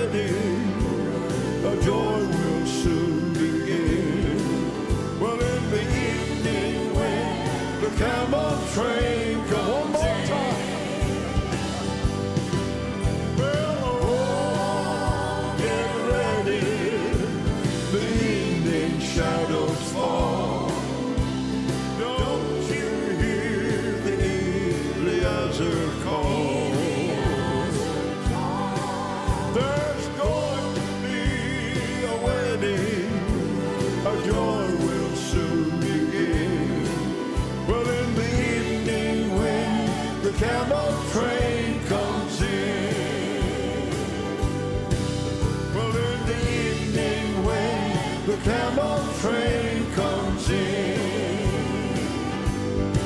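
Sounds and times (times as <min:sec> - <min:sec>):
drums steady beat: 0:00.0 - 0:53.0
piano and keyboards: 0:00.0 - 0:53.0
voices singing: 0:00.0 - 0:53.0.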